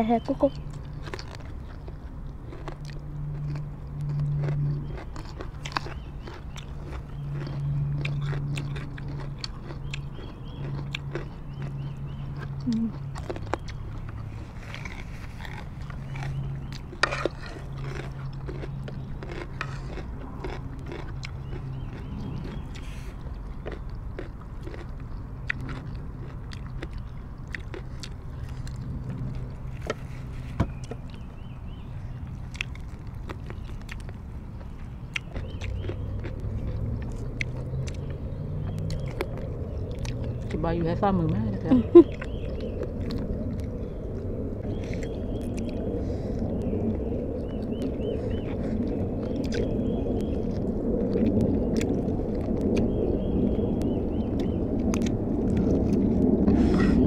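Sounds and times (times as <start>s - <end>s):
chewing and biting: 0.0s - 57.0s
low steady hum: 0.0s - 57.0s.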